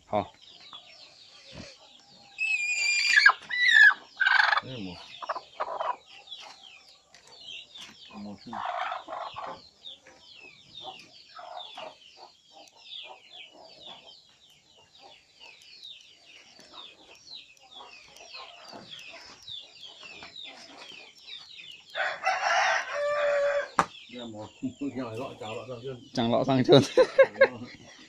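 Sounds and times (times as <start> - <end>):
chickens clucking: 0.1 - 28.0
chicks peeping: 0.1 - 28.0.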